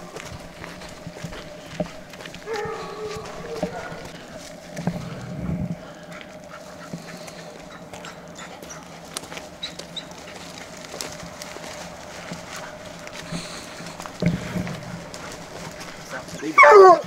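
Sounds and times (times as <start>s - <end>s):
faint dogs barking: 0.0s - 17.0s
rustling in dry leaves and gravel: 0.0s - 17.0s.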